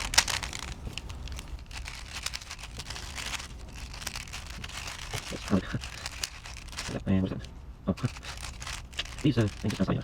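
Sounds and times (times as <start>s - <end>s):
puzzle cube clicking as turned: 0.0s - 7.0s, 8.0s - 9.9s.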